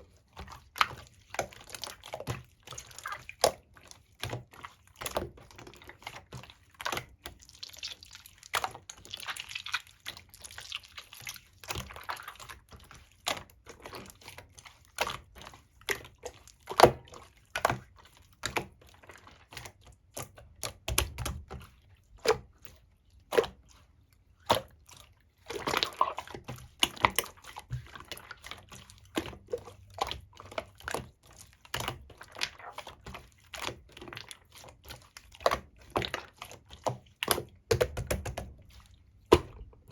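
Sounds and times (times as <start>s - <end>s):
slime squelching: 0.0s - 39.9s.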